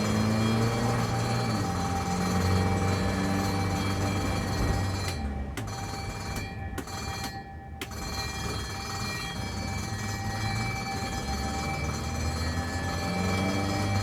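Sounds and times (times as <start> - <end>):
ambulance engine running: 0.0 - 14.0.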